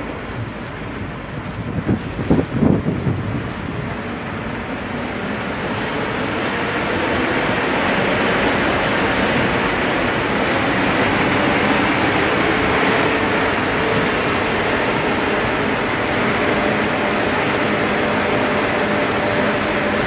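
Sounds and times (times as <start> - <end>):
bus diesel engine running: 0.0 - 20.0
road noise: 0.0 - 20.0.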